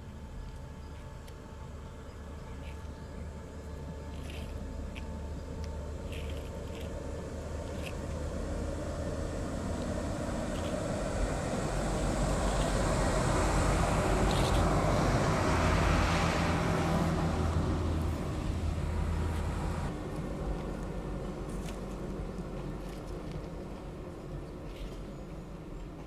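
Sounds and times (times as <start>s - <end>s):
electric rack railway train passing: 0.0s - 26.0s.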